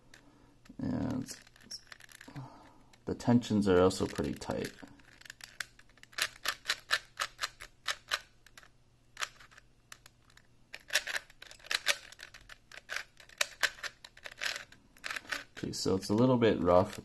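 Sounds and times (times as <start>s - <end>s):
plastic puzzle cube turning clicks: 0.6s - 3.0s, 4.0s - 15.6s.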